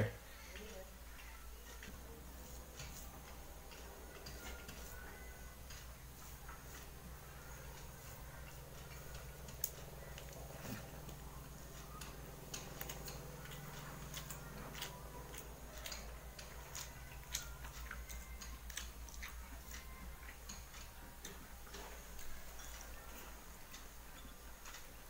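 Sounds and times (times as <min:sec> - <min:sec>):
faint low hum: 0:00.0 - 0:25.0
chewing and mouth sounds: 0:01.0 - 0:25.0.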